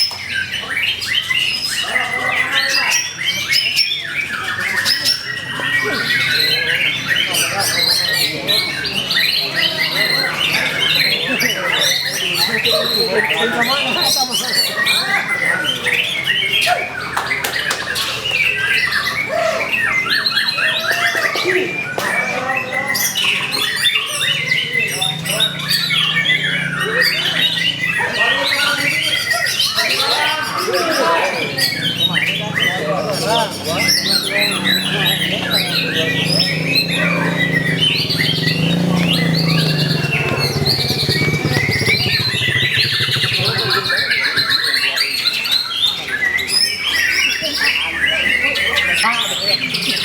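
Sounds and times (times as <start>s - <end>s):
songbird singing chirps and trills: 0.0s - 50.0s.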